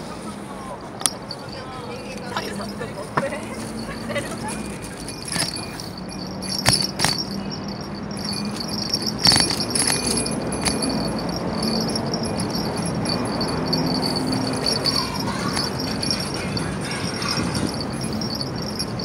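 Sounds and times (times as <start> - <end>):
tyre and wind noise: 0.0 - 19.0
bicycle rattling and jingling: 1.0 - 19.0.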